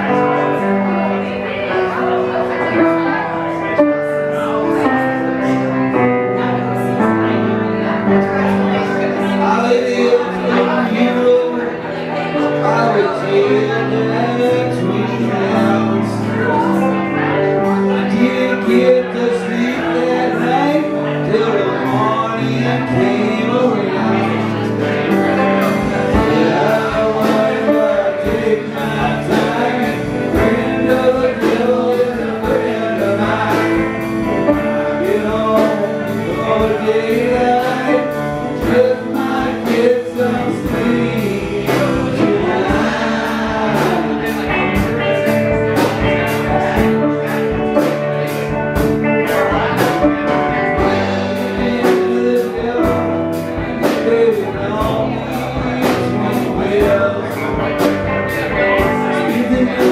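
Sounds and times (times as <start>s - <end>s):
live band with electric guitars: 0.0s - 59.9s
man singing: 0.0s - 59.9s.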